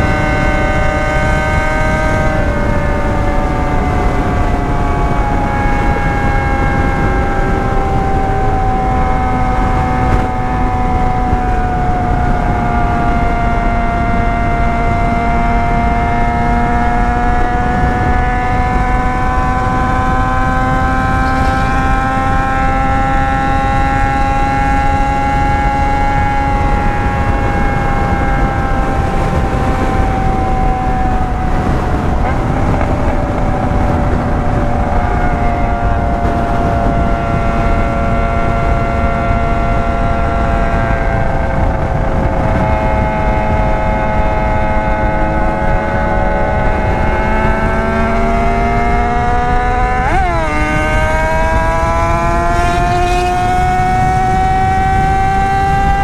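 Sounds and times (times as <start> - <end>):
motorcycle engine cruising: 0.0 - 56.0
wind noise: 0.0 - 56.0.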